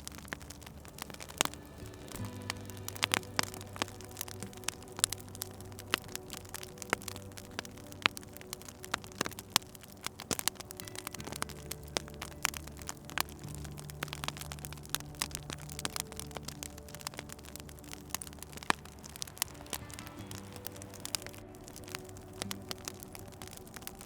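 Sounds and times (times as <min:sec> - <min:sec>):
soft ambient music: 0:00.0 - 0:24.0
wood fire crackling and popping: 0:00.0 - 0:24.0.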